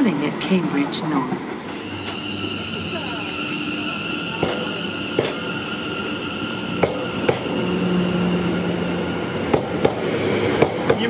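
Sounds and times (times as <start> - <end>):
electric train whine: 0.0 - 11.0.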